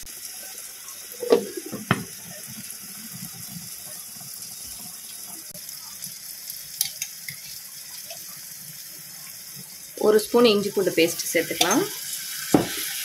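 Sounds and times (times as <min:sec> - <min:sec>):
hiss of cooking on stove: 0:00.0 - 0:13.0.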